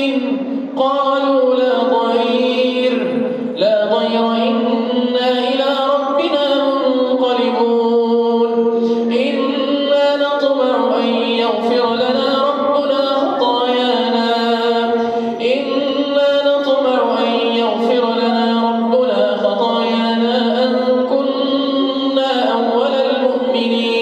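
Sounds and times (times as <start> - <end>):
man chanting melodically: 0.0 - 24.0.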